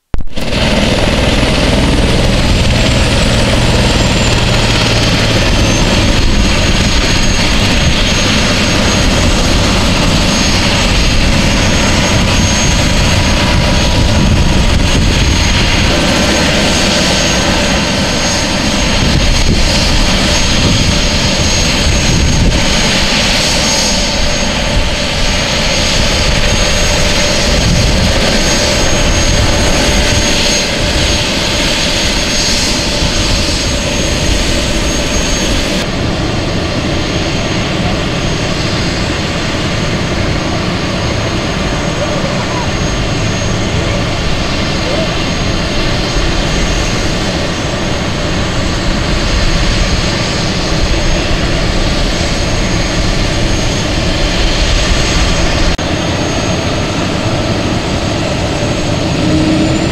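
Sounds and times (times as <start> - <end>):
helicopter turbine whine: 0.2 - 59.9
rotor wash rushing: 0.3 - 59.9.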